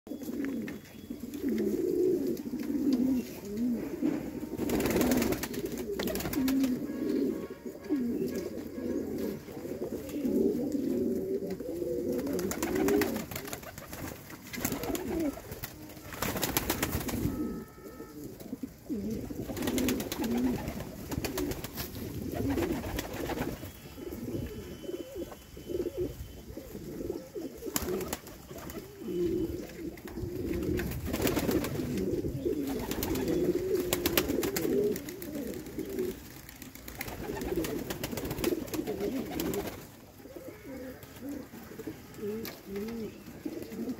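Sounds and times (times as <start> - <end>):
pigeons cooing: 0.1 - 43.9.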